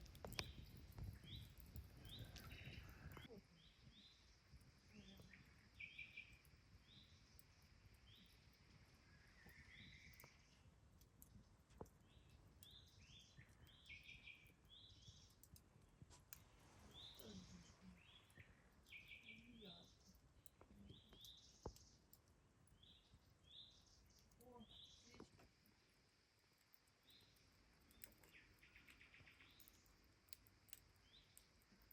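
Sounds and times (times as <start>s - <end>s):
birds chirping: 0.0s - 15.6s, 16.8s - 25.4s, 27.0s - 30.4s
campfire crackling: 0.0s - 31.9s.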